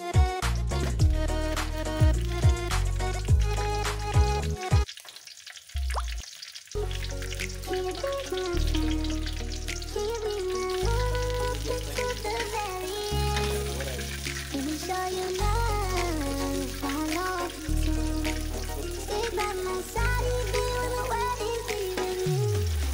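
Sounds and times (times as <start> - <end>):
background music: 0.0 - 4.9, 6.8 - 22.9
hot oil sizzling in a wok: 0.4 - 22.9.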